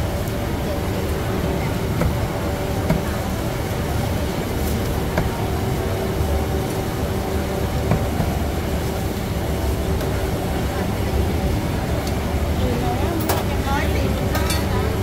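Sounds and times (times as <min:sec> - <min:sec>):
indistinct crowd chatter: 0:00.0 - 0:15.0.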